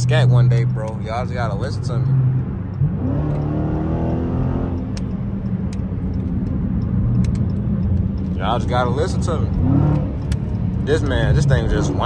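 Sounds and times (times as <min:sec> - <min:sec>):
car engine accelerating: 0:00.0 - 0:12.0
engine whine: 0:00.0 - 0:12.0.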